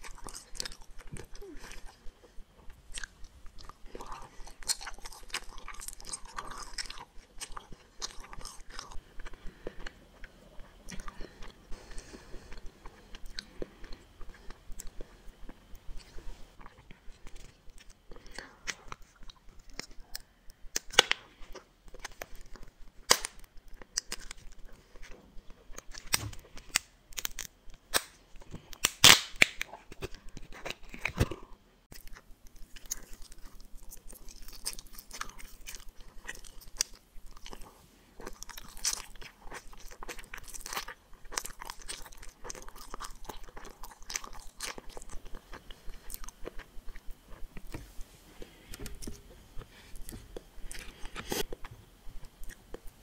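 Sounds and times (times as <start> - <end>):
chewing and crunching candies: 0.0 - 53.0.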